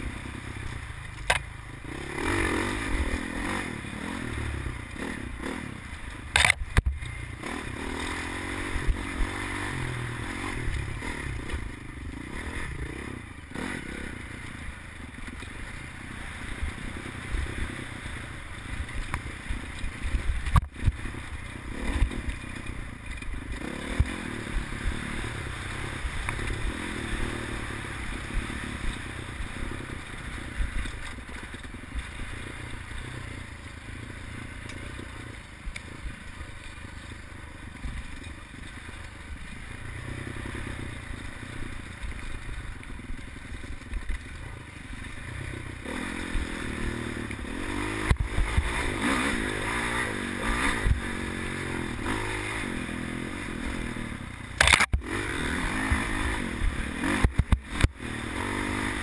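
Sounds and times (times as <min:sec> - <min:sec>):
dirt bike engine revving: 0:00.0 - 0:35.4, 0:36.0 - 0:42.7, 0:44.6 - 0:59.0
bike rattling and scraping: 0:00.0 - 0:59.0.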